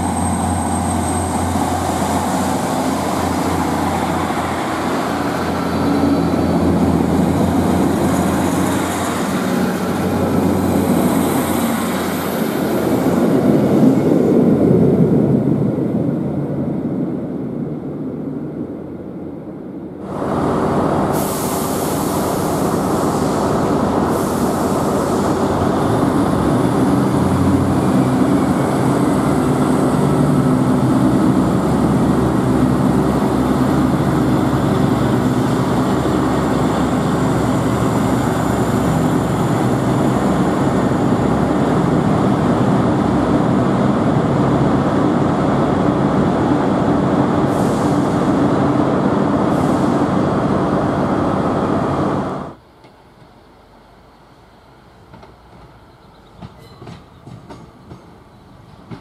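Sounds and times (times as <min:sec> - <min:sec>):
diesel train engine and wheels: 0:00.0 - 0:59.0.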